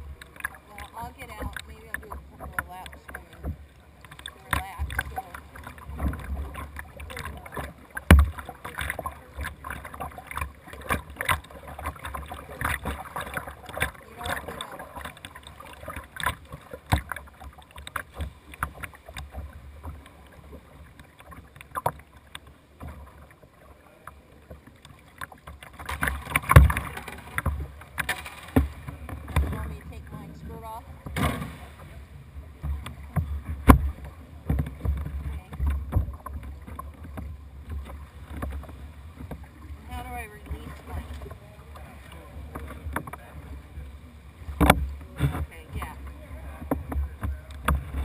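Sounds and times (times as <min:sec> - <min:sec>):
paddle strokes splashing water: 0:00.0 - 0:48.0.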